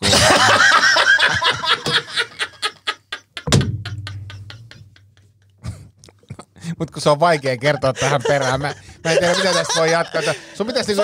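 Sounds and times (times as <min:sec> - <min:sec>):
men laughing hard: 0:00.0 - 0:06.0, 0:07.4 - 0:11.0.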